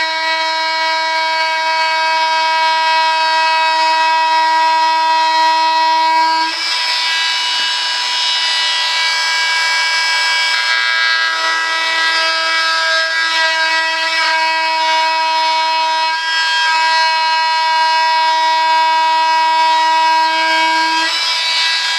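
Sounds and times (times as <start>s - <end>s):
blade cutting noise: 0.0s - 21.9s
oscillating multi-tool whine: 0.0s - 21.9s.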